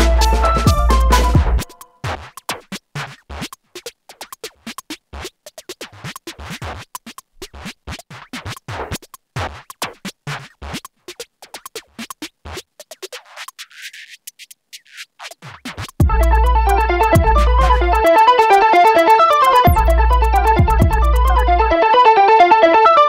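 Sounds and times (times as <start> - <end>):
electronic music with stuttering beats: 0.0 - 22.3.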